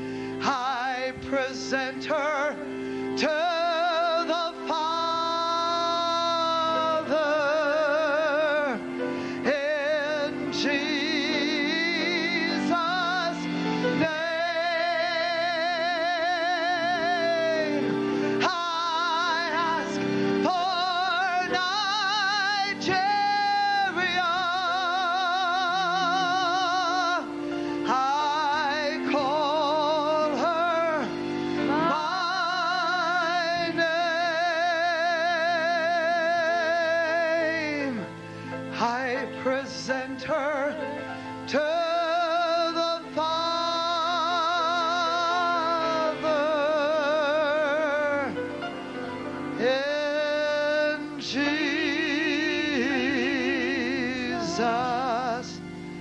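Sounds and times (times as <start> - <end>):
keyboard chords: 0.0 - 56.0
person singing with vibrato: 0.0 - 56.0.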